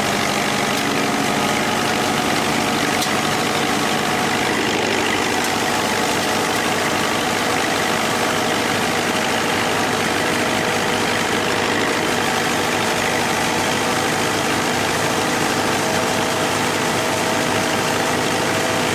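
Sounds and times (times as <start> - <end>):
farm machine engine running: 0.0 - 18.9.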